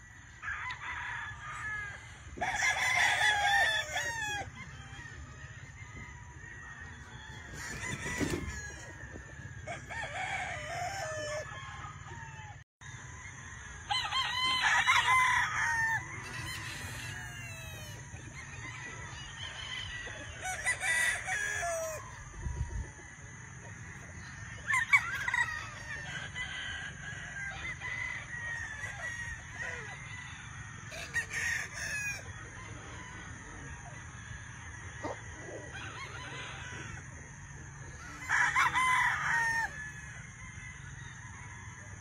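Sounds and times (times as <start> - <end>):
rooster crowing: 0.0 - 23.6, 24.3 - 37.1, 37.9 - 42.0
faint distant rooster crows: 0.0 - 34.0.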